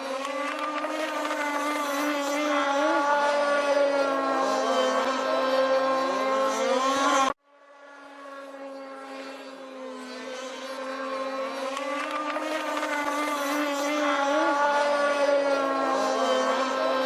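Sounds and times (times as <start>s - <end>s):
model boat motor running: 0.0s - 17.0s.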